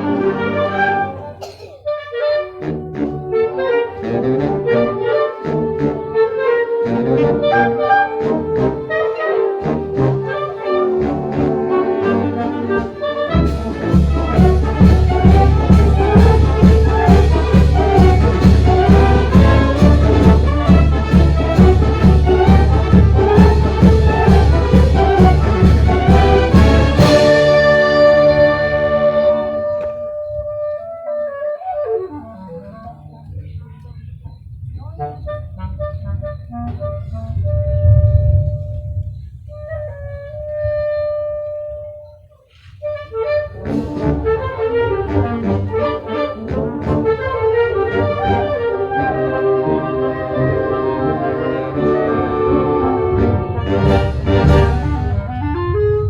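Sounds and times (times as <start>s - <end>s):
brass-like accompaniment: 0.0s - 34.1s, 34.8s - 56.0s
clarinet melody: 0.0s - 56.0s.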